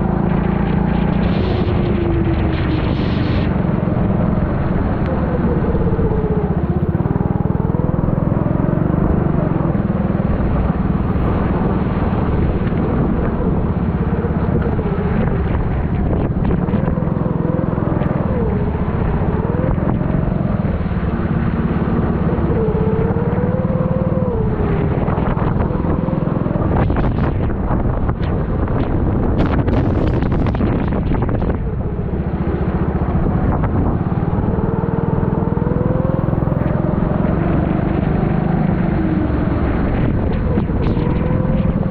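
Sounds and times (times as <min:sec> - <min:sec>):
kart engine revving: 0:00.0 - 0:27.3, 0:28.0 - 0:41.9.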